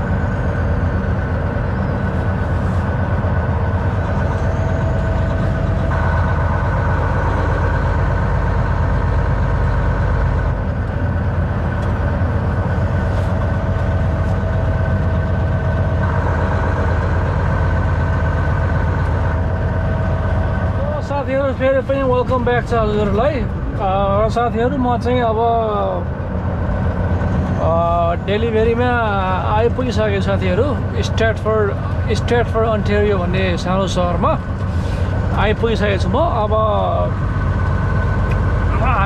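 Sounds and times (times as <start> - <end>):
constant hum: 0.0 - 39.0
low truck engine drone: 0.0 - 39.0
road noise: 0.0 - 39.0.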